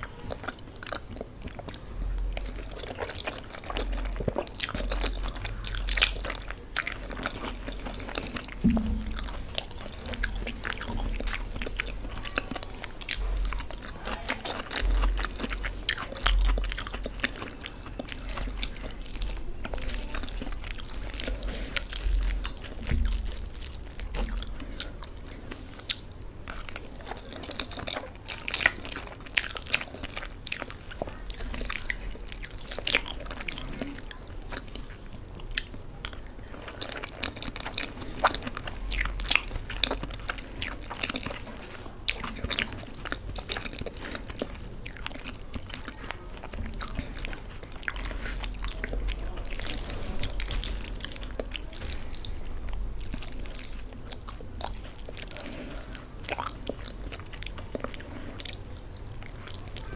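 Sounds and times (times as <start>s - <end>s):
chewing and biting noodles: 0.0s - 59.9s.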